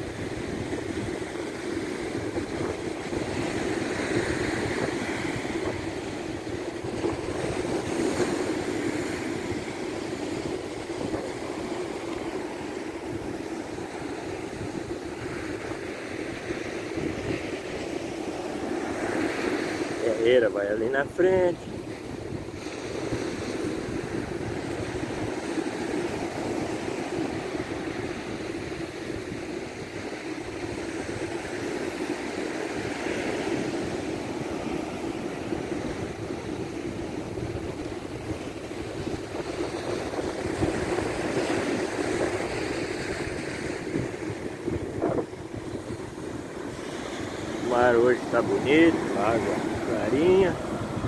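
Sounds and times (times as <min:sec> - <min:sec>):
wind noise on microphone: 0:00.0 - 0:20.2, 0:20.9 - 0:51.0
surf washing onto beach: 0:00.0 - 0:51.0.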